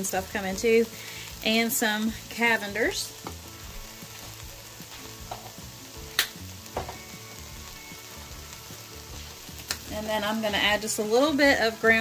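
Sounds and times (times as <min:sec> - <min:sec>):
meat and onions sizzling: 0:00.0 - 0:12.0.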